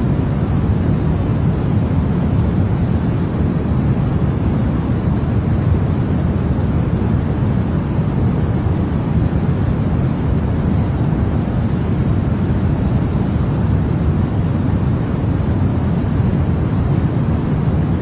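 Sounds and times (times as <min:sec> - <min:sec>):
deep white noise: 0:00.0 - 0:18.0.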